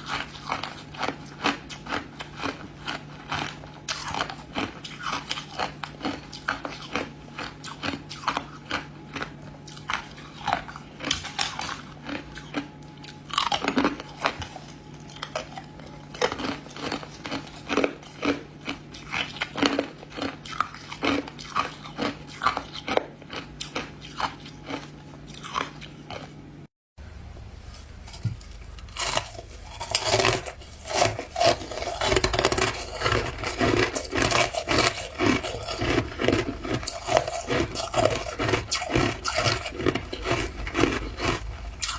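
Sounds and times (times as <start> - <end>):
ice crunching while chewed: 0.0 - 26.4, 28.0 - 41.9.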